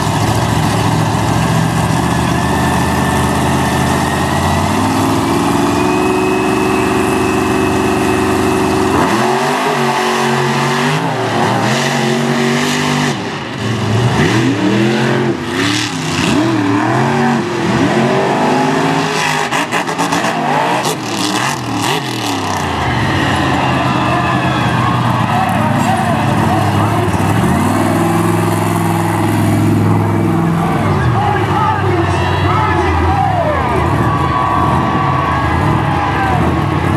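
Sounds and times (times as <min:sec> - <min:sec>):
monster truck engine revving: 0:00.0 - 0:36.9.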